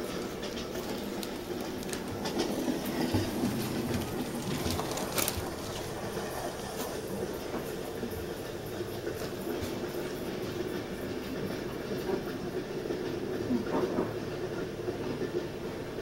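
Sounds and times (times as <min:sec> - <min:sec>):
recorded train rumble over loudspeakers: 0:00.0 - 0:16.0.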